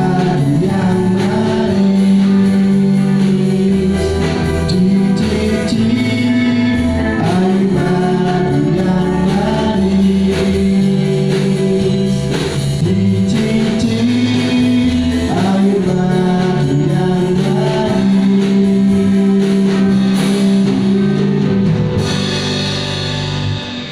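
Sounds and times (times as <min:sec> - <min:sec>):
person singing: 0:00.0 - 0:22.8
band with guitar and beat: 0:00.0 - 0:23.9.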